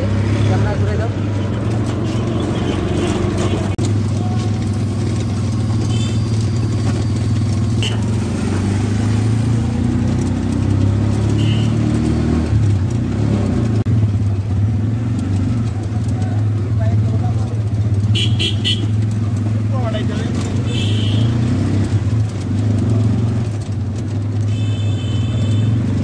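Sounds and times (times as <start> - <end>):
auto-rickshaw engine droning: 0.0 - 26.0.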